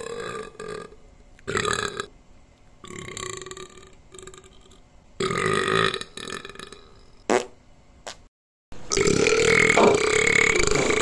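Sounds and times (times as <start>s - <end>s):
person burping: 0.0s - 2.1s, 2.8s - 7.4s, 8.9s - 11.0s.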